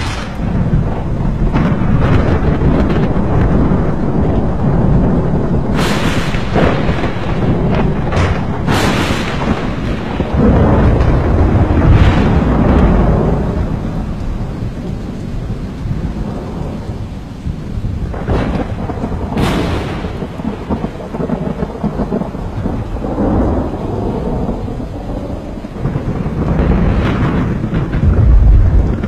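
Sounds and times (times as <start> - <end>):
sharp thunder cracks: 0.0 - 16.8, 17.8 - 29.0
thunder rumbling: 0.0 - 29.0.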